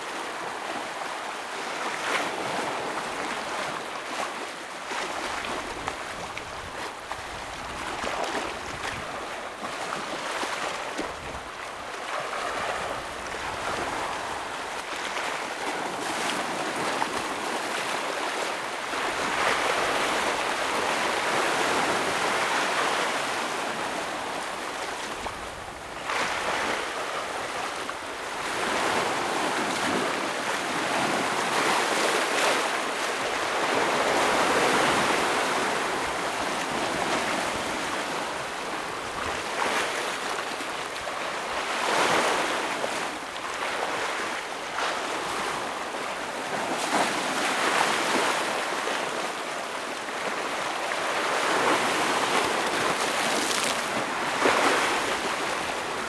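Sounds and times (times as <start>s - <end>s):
ocean waves breaking on rocks: 1.6s - 56.0s.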